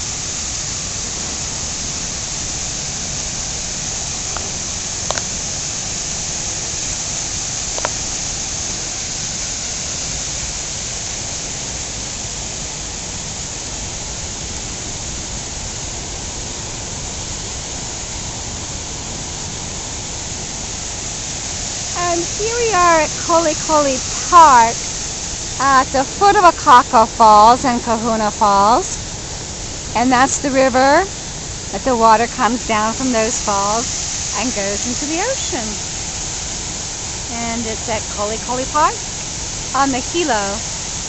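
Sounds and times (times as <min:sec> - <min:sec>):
waterfall and river rushing: 0:00.0 - 0:41.0.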